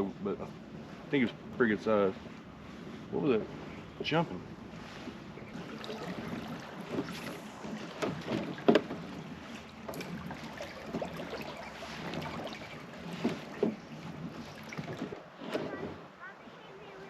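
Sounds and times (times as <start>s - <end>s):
water wash: 0.0s - 17.0s
wind: 0.0s - 17.0s
water splashing against kayak: 0.3s - 17.0s.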